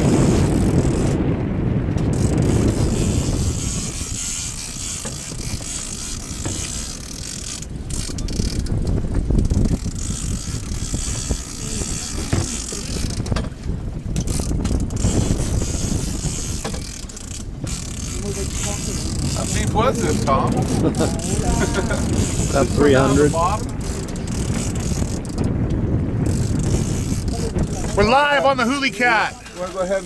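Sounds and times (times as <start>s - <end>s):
wind and boat rumble: 0.0s - 30.0s
fishing reel clicker ticking: 2.0s - 13.4s, 14.2s - 28.1s.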